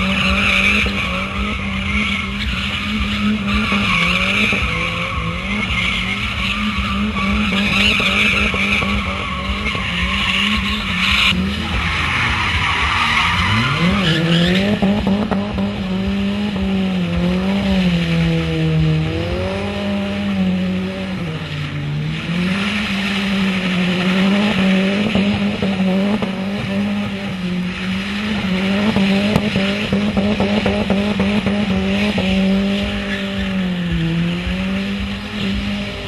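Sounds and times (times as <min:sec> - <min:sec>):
car engine at high revs: 0:00.0 - 0:36.0.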